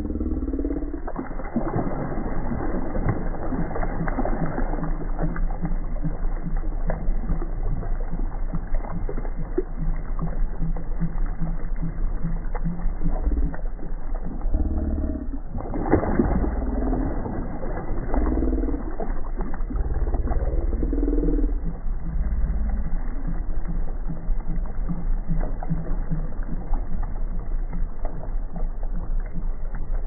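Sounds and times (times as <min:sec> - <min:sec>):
water splashing and sloshing: 0:00.0 - 0:30.0.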